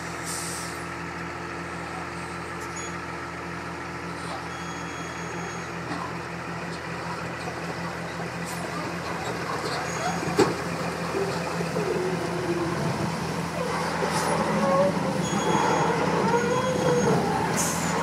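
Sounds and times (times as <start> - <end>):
diesel truck engine humming: 0.0 - 18.0.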